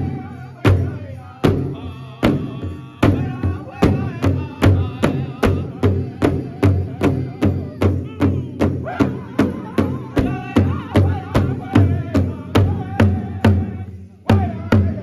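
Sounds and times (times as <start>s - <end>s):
large drum beaten in unison: 0.0s - 15.0s
people singing in high voices: 0.0s - 15.0s.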